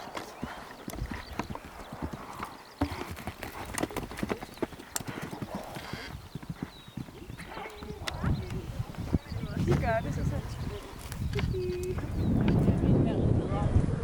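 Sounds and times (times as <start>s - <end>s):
horse hoofbeats: 0.0s - 12.8s.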